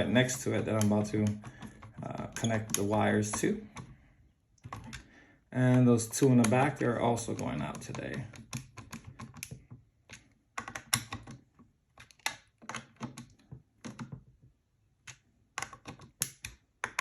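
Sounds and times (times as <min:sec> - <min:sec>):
small parts clicking and tapping: 0:00.0 - 0:17.0.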